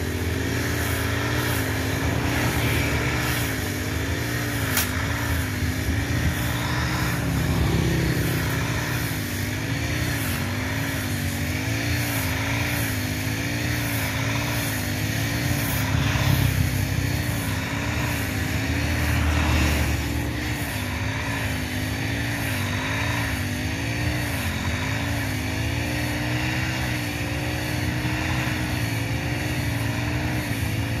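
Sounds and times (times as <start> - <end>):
brush cutter running hard: 0.0 - 31.0
motorbikes passing: 0.0 - 31.0.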